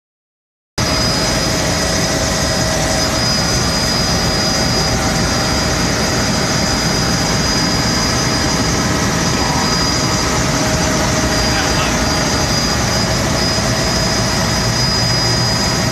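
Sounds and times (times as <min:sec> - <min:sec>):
helicopter engine and rotor: 0:00.8 - 0:15.9
high whine: 0:00.8 - 0:15.9.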